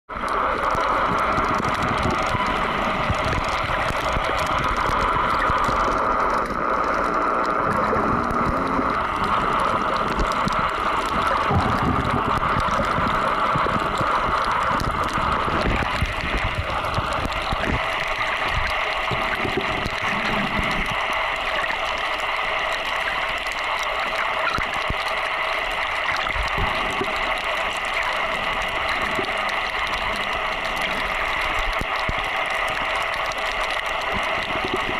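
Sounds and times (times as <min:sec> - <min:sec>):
small crackling clicks: 0:00.1 - 0:34.9
underwater hiss and hum: 0:00.1 - 0:34.9.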